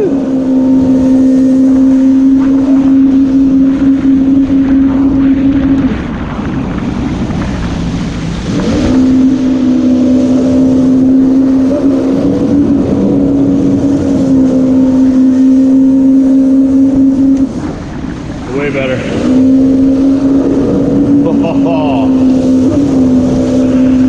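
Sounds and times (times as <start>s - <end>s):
personal watercraft engine: 0.0s - 24.0s.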